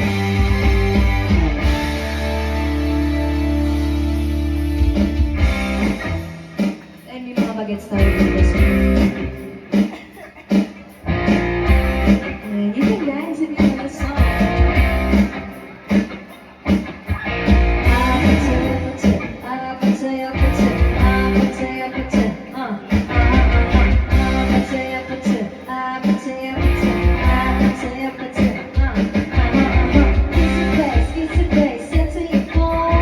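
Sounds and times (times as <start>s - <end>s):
electric guitar playing: 0.0s - 7.1s, 7.9s - 33.0s
drums steady beat: 0.0s - 33.0s.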